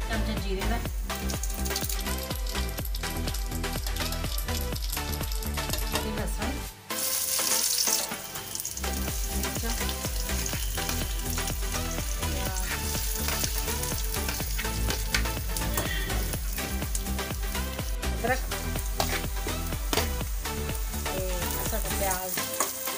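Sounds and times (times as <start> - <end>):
background music with beat: 0.0 - 22.9
food sizzling in hot oil: 1.0 - 22.9.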